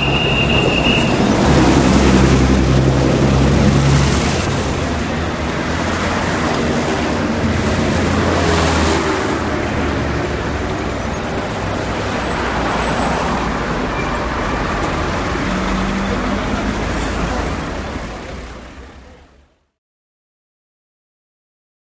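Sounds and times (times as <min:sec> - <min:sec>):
car and bus engines passing: 0:00.0 - 0:19.7.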